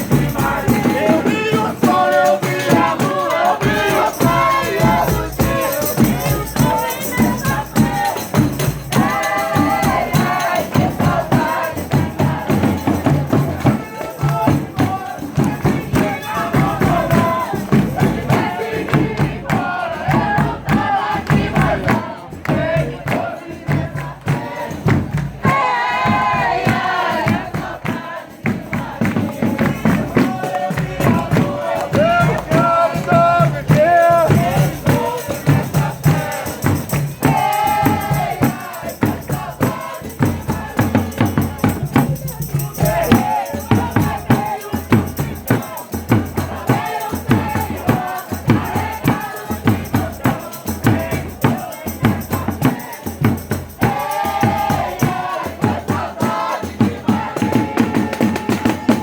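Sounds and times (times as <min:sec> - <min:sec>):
group singing a devotional chant: 0:00.0 - 0:59.0
tambourines and percussion: 0:00.0 - 0:59.0.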